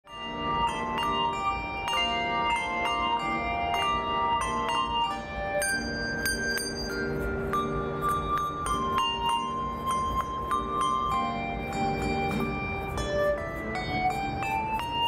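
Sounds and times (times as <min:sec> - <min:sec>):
handbells ringing: 0:00.1 - 0:15.0.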